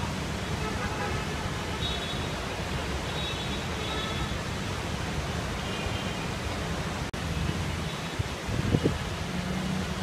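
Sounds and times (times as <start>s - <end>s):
heavy rain hissing: 0.0s - 10.0s.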